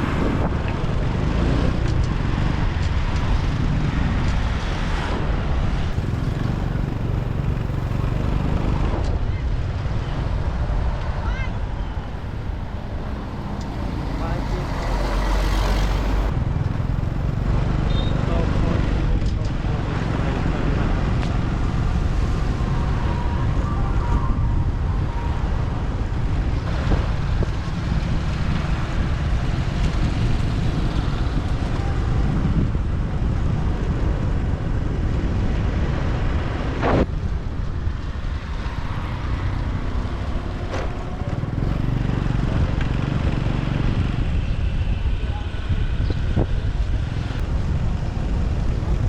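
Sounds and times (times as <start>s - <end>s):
wind rumbling on microphone: 0.0s - 49.0s.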